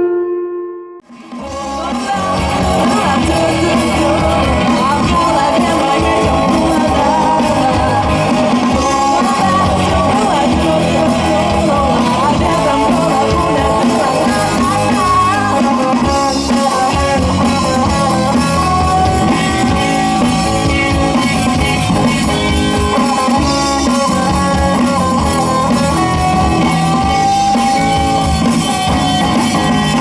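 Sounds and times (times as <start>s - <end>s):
guitar: 0.0s - 30.0s
person singing: 0.0s - 30.0s
rock band playing: 0.0s - 30.0s.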